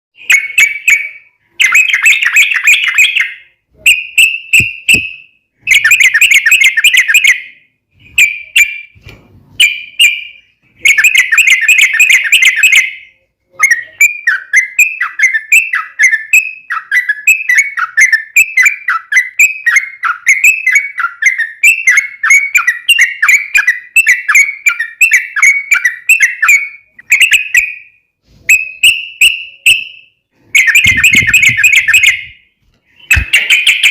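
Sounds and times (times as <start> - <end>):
bird chattering song: 0.2 - 9.0, 9.6 - 33.9
bird whistles: 0.2 - 9.0, 9.6 - 33.9.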